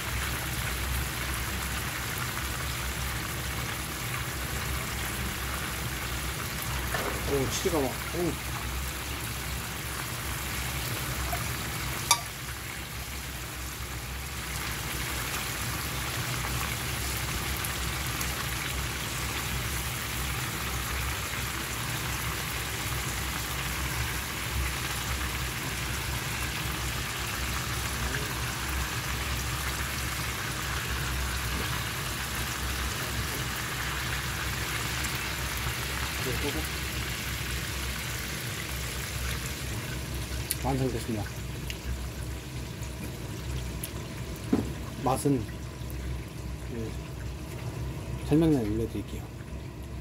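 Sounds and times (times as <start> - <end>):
glaze sizzling in a frying pan: 0.0 - 50.0.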